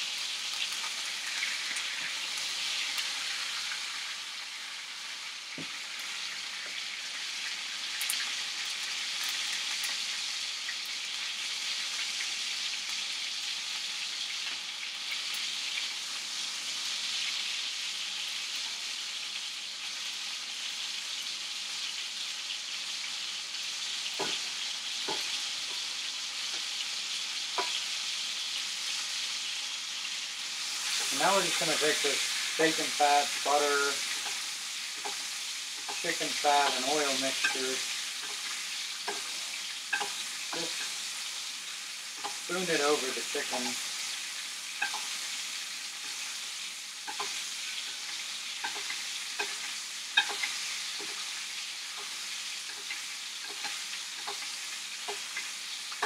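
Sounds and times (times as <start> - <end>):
chicken sizzling in a pan: 0.0 - 56.0.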